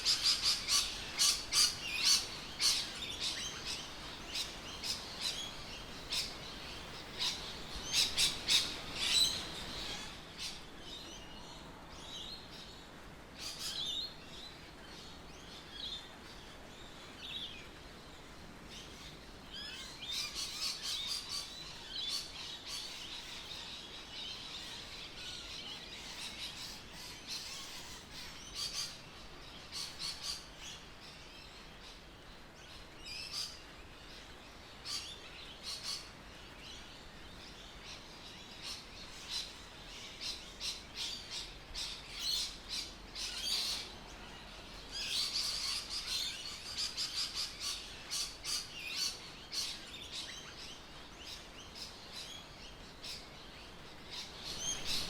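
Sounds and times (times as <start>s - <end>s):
birds chirping: 0.0s - 17.7s, 18.8s - 55.0s.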